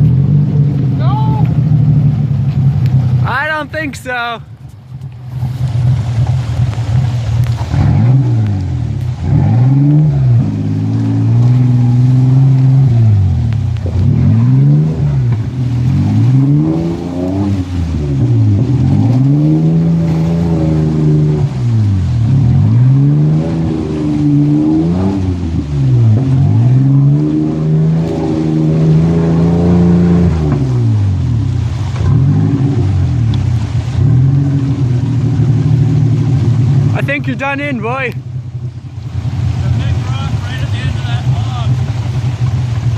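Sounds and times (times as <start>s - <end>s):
truck engine revving hard: 5.8s - 38.2s, 39.1s - 42.9s.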